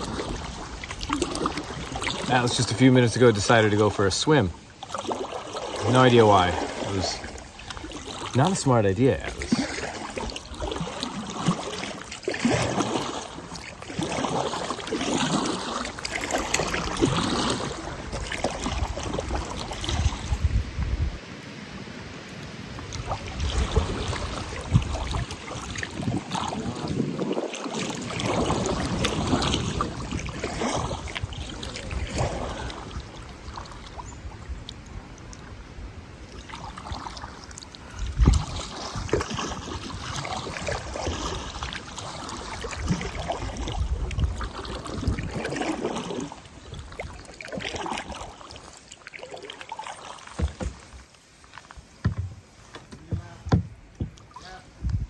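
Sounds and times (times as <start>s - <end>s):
water trickling: 0.0s - 20.6s, 22.8s - 35.5s, 36.2s - 52.3s
paddle strokes splashing: 0.0s - 54.9s.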